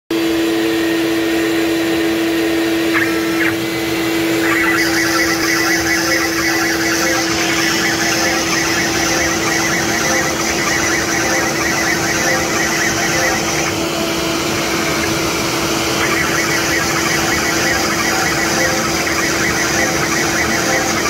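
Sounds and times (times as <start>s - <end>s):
router spindle running: 1.2s - 21.0s
drill bit cutting wood: 2.8s - 21.0s.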